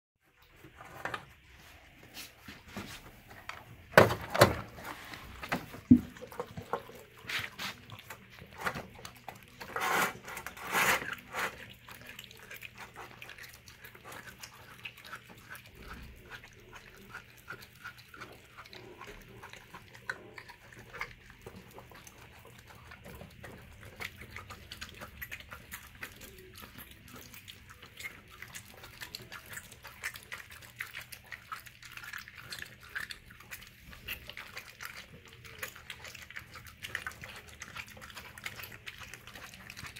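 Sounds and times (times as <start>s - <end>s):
dog licking and chewing: 1.6s - 39.9s.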